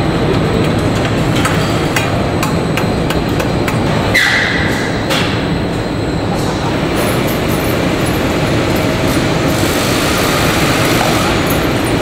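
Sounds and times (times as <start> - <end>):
steady factory din: 0.0 - 12.0.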